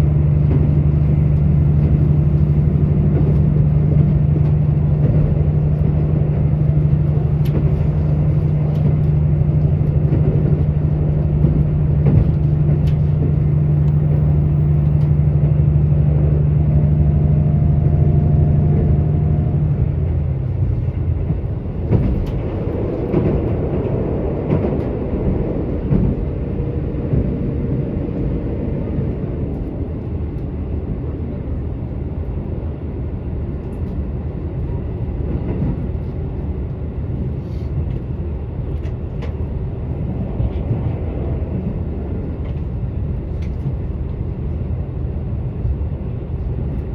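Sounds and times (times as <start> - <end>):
diesel railcar engine drone: 0.0 - 46.9
wheels rumbling on rail: 0.0 - 46.9.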